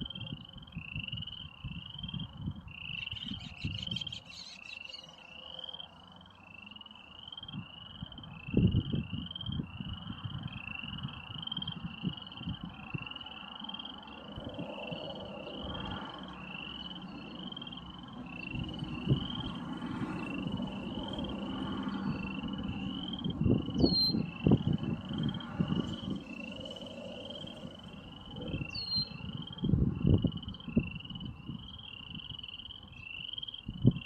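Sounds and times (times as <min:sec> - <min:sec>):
wind rumble on microphone: 0:00.0 - 0:04.8, 0:07.4 - 0:34.0
frogs calling: 0:00.0 - 0:34.0.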